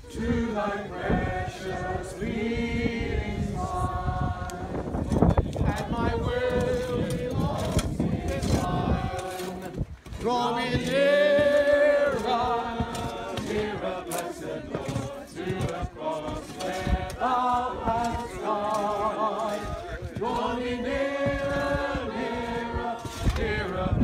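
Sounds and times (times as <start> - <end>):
group singing a hymn: 0.0 - 24.0.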